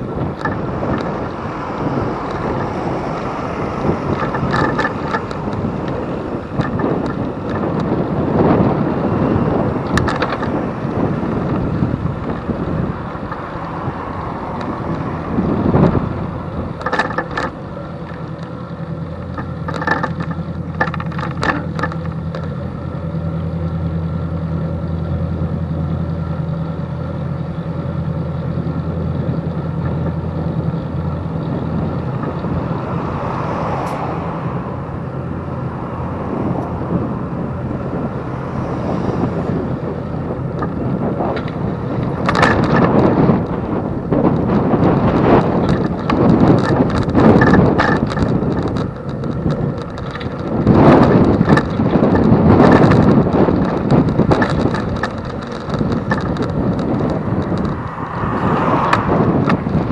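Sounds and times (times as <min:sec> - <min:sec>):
road traffic: 0:00.0 - 0:59.9
vehicle engine low hum: 0:00.0 - 0:59.9
wind noise on microphone: 0:00.0 - 0:59.9.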